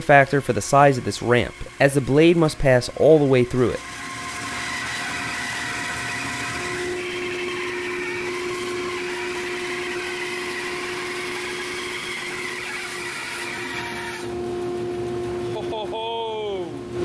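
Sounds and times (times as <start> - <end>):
bandsaw cutting hardwood: 0.0 - 14.4.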